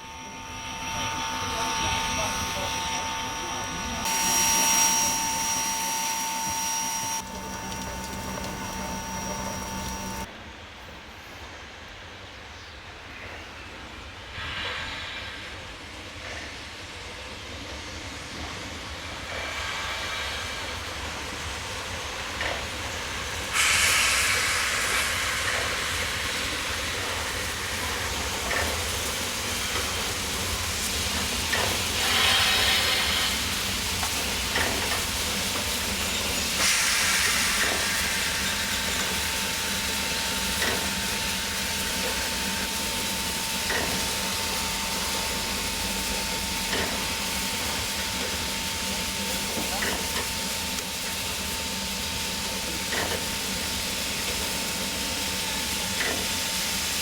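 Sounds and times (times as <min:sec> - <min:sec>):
steam locomotive hissing steam: 0:00.0 - 0:57.0.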